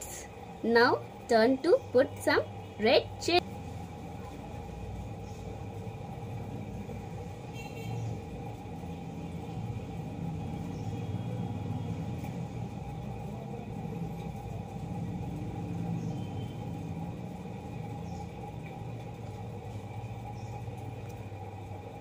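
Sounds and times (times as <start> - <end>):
faint constant hum: 0.0 - 22.0
low background rumble: 0.0 - 22.0.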